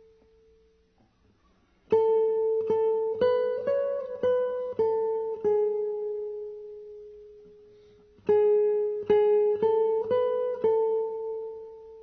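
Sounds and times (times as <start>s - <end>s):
plucked string instrument melody: 1.9s - 12.0s.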